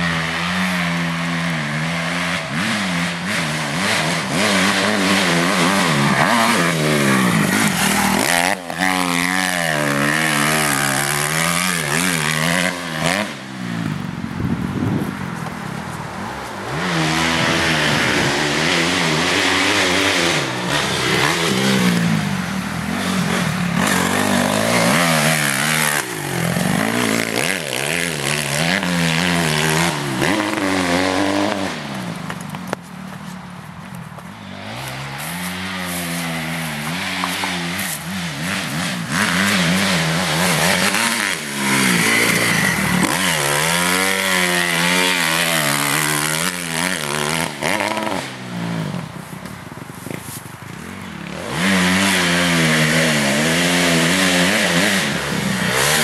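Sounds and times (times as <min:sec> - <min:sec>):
motocross bike engine revving: 0:00.0 - 0:14.9, 0:16.6 - 0:32.6, 0:34.3 - 0:56.0.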